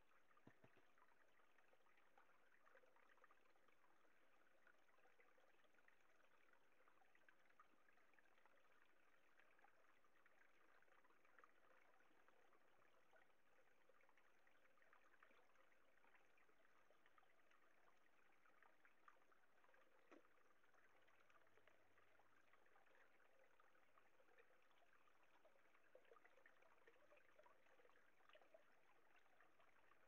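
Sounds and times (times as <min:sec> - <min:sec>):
water trickling and swishing: 0:00.0 - 0:30.0.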